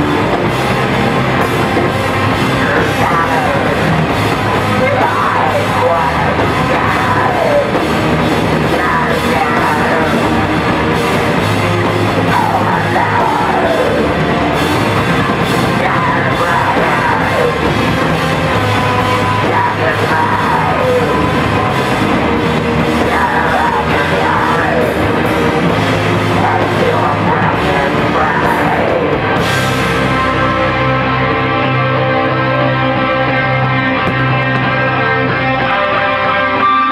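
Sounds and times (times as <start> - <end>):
punk band playing loud: 0.0 - 36.9
yelled vocals: 0.0 - 36.9.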